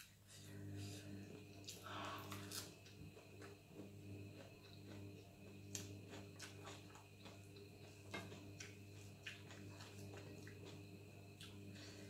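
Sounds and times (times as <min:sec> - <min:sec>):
chewing with mouth clicks: 0:01.6 - 0:11.7.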